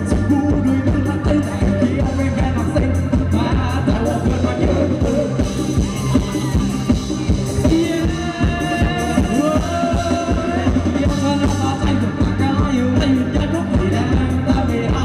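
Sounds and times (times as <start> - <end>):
live band playing dance music: 0.0 - 15.0
steady drum beat: 0.0 - 15.0.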